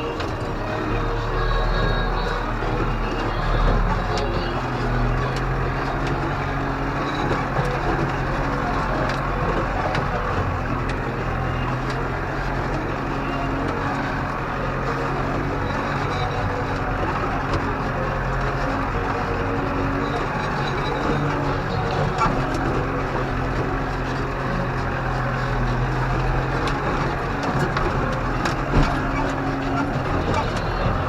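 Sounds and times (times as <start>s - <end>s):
tractor engine drone: 0.0s - 31.0s.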